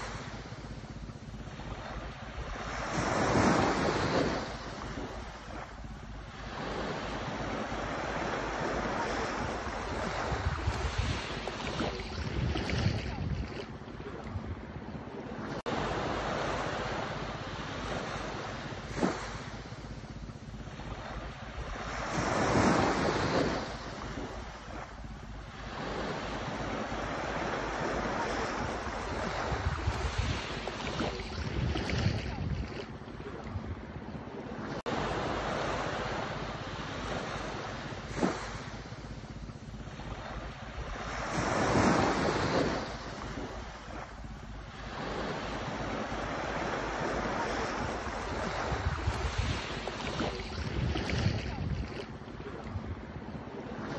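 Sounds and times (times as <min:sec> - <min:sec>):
waves lapping on sandy beach: 0:00.0 - 0:53.9
wind rumble on microphone: 0:00.0 - 0:53.9.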